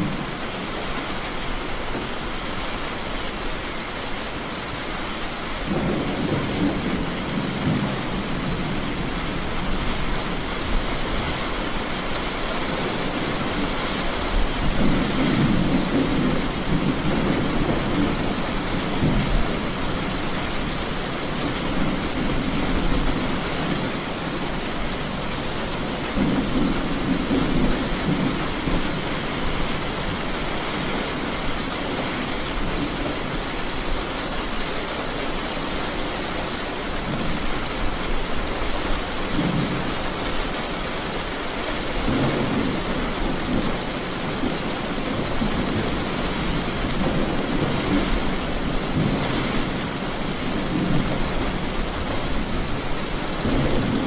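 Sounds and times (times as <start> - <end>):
heavy rain: 0.0 - 54.0
thunder rumbling: 5.6 - 33.9, 36.8 - 54.0.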